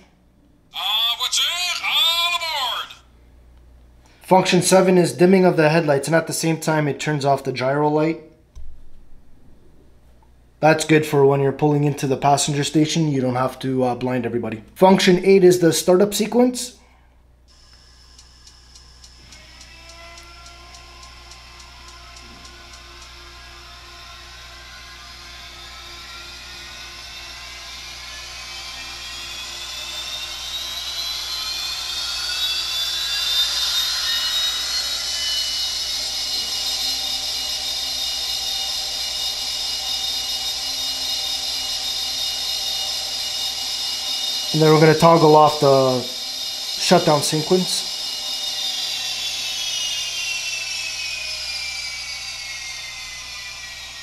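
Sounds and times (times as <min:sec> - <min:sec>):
gas turbine whine rising: 0:00.0 - 0:54.0.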